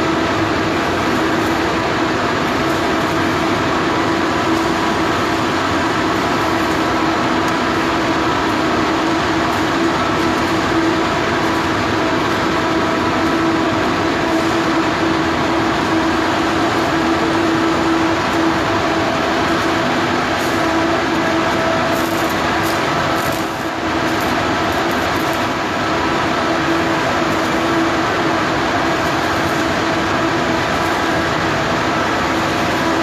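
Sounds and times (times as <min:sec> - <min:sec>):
constant hum: 0:00.0 - 0:33.0
loud machinery drone: 0:00.0 - 0:33.0.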